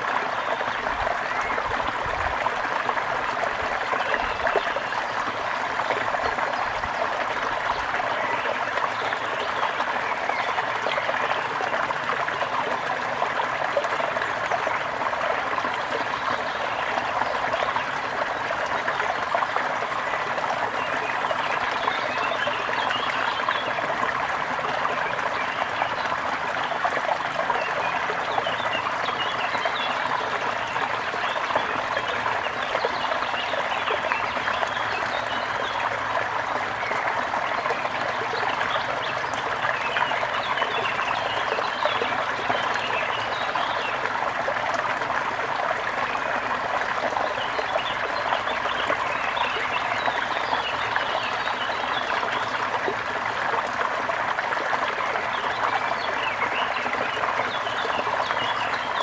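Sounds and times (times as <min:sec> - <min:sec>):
brook water babbling: 0:00.0 - 0:59.0.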